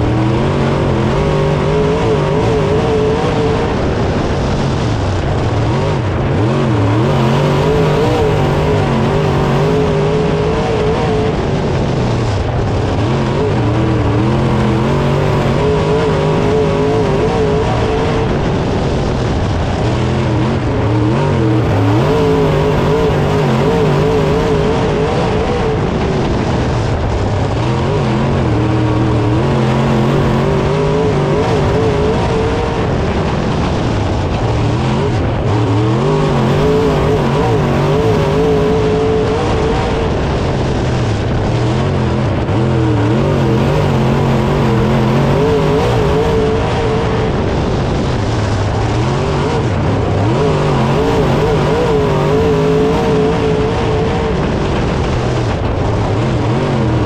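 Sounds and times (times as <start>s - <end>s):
race car engine: 0.0s - 57.0s
steady rush of noise: 0.0s - 57.0s.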